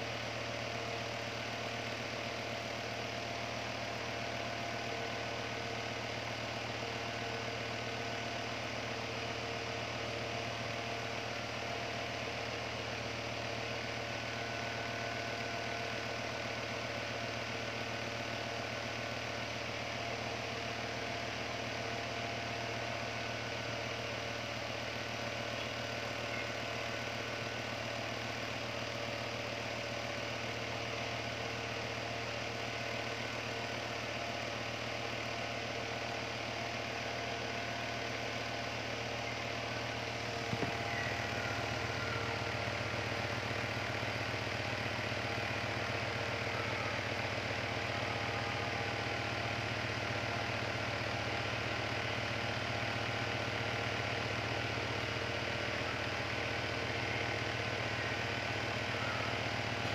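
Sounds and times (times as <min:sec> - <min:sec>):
desk fan humming and whirring: 0:00.0 - 0:59.9.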